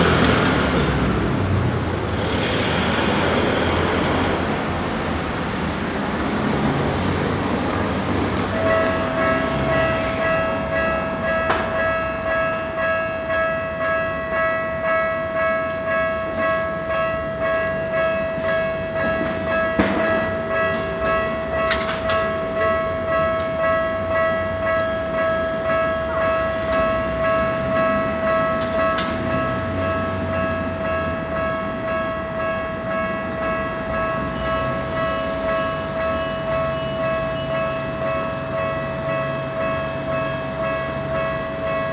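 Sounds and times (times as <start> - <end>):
train running over rails: 0.0 - 41.9
level crossing warning bell: 3.1 - 41.9.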